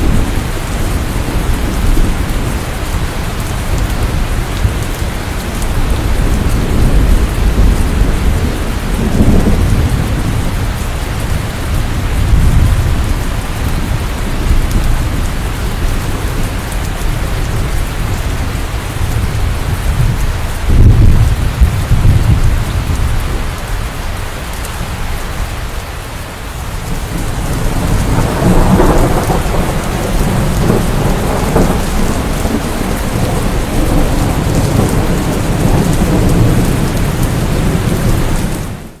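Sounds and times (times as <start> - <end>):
rolling thunder: 0.0 - 23.8, 26.6 - 39.0
heavy rain: 0.0 - 39.0.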